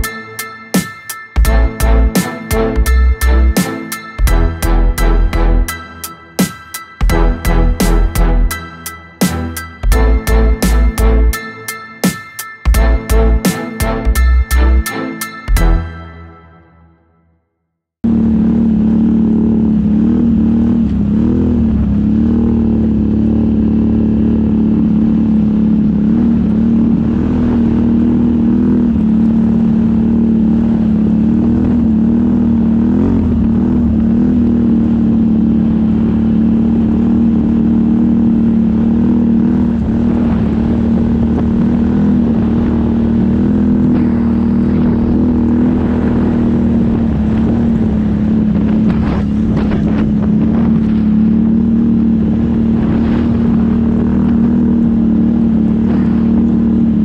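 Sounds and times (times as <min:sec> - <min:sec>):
atv engine drone: 0:00.0 - 0:16.8, 0:18.0 - 0:57.0.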